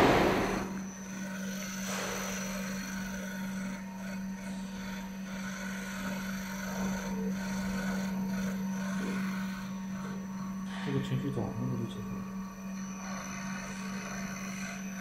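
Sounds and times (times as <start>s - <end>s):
cutter milling foam: 0.0s - 15.0s
milling machine spindle hum: 0.0s - 15.0s.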